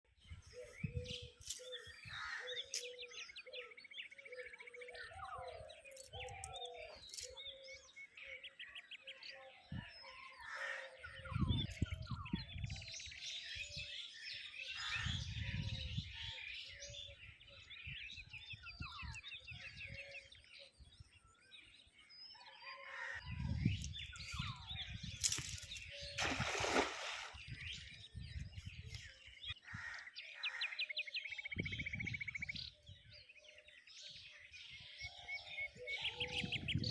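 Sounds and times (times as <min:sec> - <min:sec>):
birds chirping and trilling: 0:00.1 - 0:36.9.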